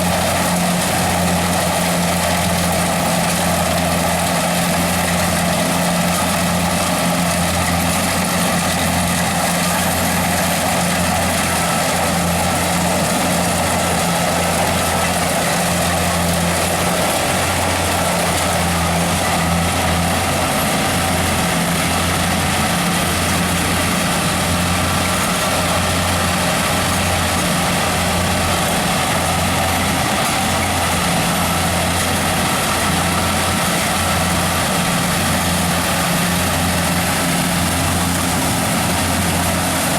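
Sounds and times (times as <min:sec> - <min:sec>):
harvester engine hum: 0:00.0 - 0:39.9
machinery rushing noise: 0:00.0 - 0:39.9.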